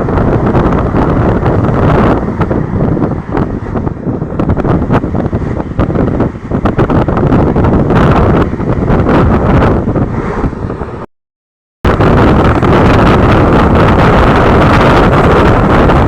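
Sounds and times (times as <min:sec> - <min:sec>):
moving train rumble: 0:00.0 - 0:11.1, 0:11.9 - 0:16.0
wind buffeting microphone: 0:00.0 - 0:11.1, 0:11.8 - 0:16.0.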